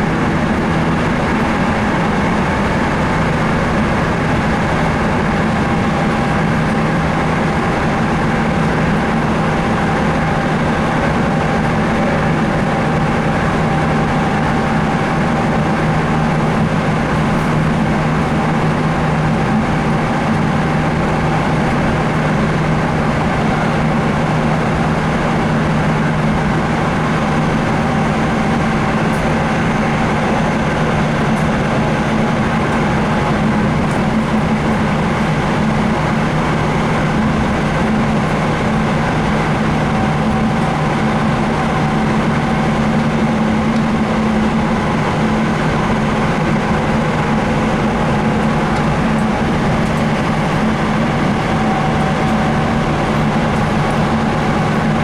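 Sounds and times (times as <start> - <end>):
low motor hum: 0.0 - 55.0
wheels rumbling on rail: 0.0 - 55.0.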